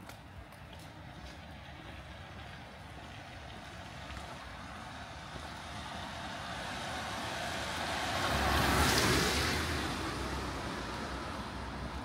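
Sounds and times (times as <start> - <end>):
background traffic noise: 0.0 - 12.0
car tyres hissing on wet street: 1.6 - 12.0.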